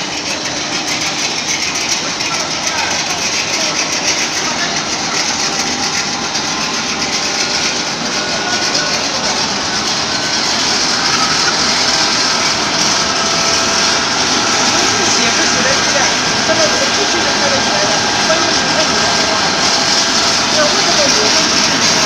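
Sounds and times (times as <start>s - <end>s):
wire drawing machine running: 0.0s - 22.0s.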